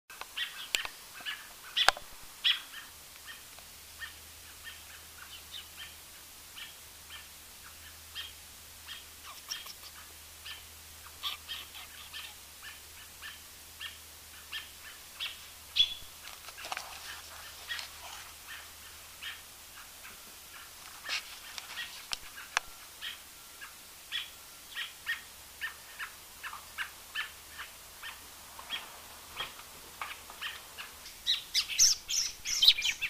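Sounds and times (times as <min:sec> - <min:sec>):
bird chirping: 0:00.1 - 0:33.0.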